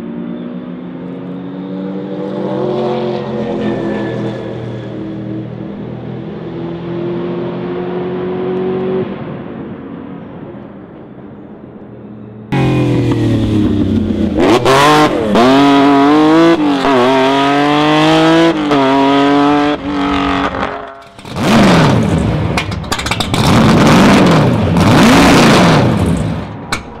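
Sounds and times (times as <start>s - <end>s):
racing car engine accelerating: 0.0s - 9.2s, 12.5s - 26.6s.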